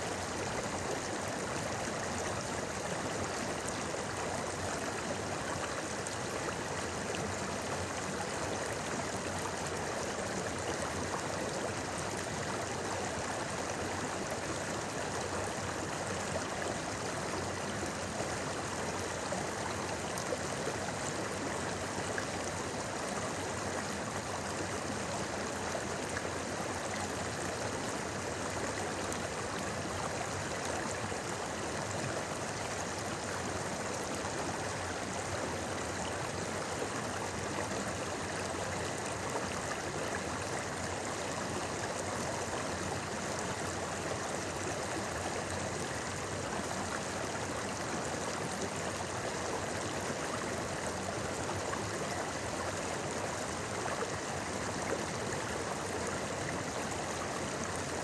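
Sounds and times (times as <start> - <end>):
river babbling over stones: 0.1 - 58.0.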